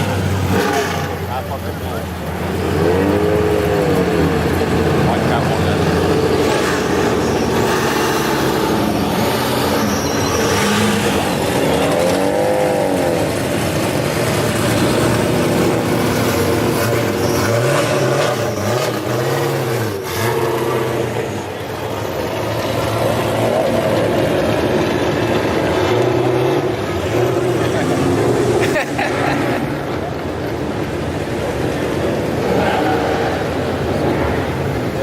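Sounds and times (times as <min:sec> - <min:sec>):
car and truck engines revving: 0:00.0 - 0:35.0.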